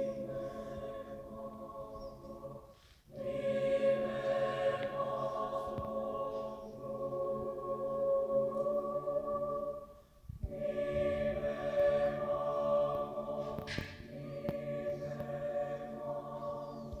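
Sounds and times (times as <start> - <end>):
choir singing sustained chords: 0.0 - 17.0.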